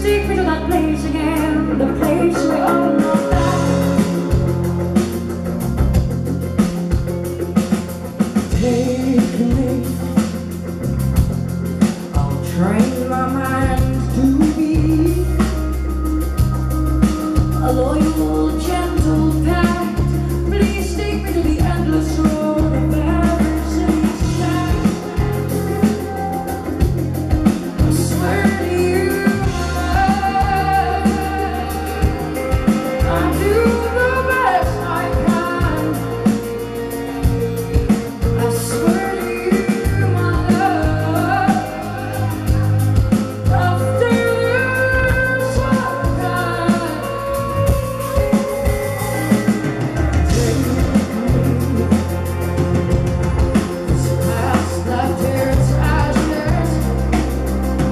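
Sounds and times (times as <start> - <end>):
drum kit: 0.0 - 57.9
guitar: 0.0 - 57.9
steady bass notes: 0.0 - 57.9
woman singing lead: 0.0 - 57.9.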